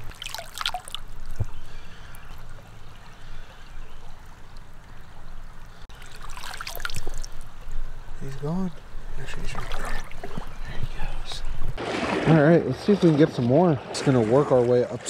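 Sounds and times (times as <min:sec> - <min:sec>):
short water splashes: 0:00.0 - 0:05.1, 0:05.8 - 0:07.5, 0:08.3 - 0:10.8, 0:11.7 - 0:15.0
creek water trickling: 0:00.0 - 0:15.0.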